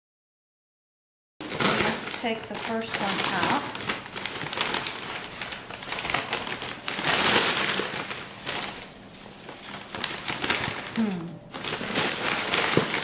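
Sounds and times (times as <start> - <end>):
packing paper rustling and crinkling: 1.4 - 13.0.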